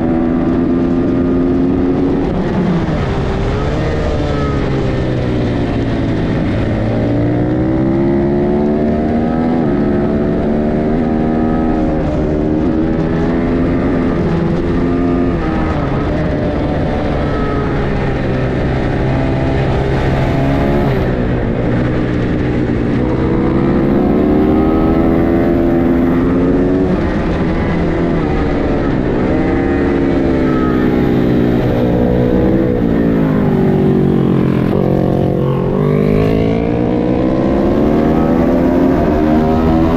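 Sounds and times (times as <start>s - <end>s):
racing motorcycle engine: 0.0s - 39.9s
wind noise: 0.0s - 39.9s.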